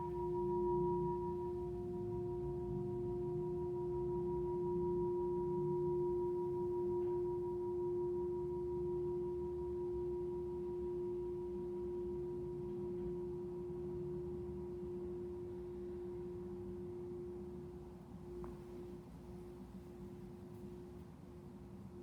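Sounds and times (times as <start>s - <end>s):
singing bowl ringing: 0.0s - 17.8s.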